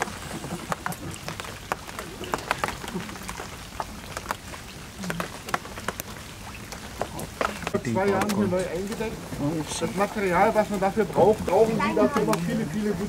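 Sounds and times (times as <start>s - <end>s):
raindrops tapping on water: 0.0s - 13.0s.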